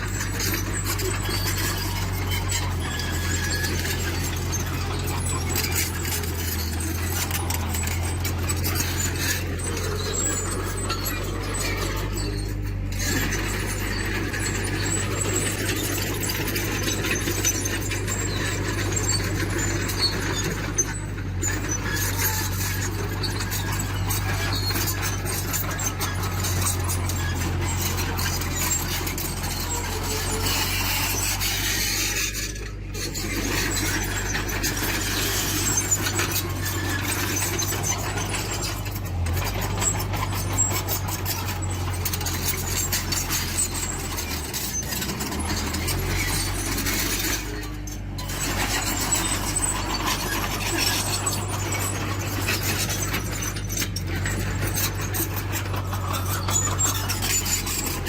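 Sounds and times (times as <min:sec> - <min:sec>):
diesel engine running: 0:00.0 - 0:58.0
steel tracks squealing and clattering: 0:00.0 - 0:58.0.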